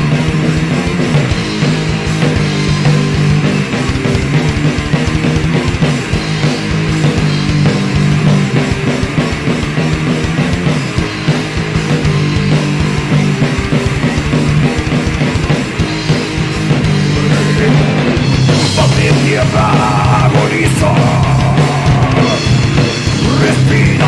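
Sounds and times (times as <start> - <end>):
drum kit: 0.0 - 24.0
electric guitars low notes: 0.0 - 24.0.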